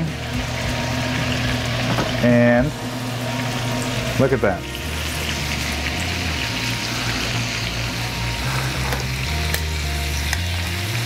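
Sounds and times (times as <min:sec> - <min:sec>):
background music with bass: 0:00.0 - 0:11.0
butter and lobster sizzling: 0:00.0 - 0:11.0.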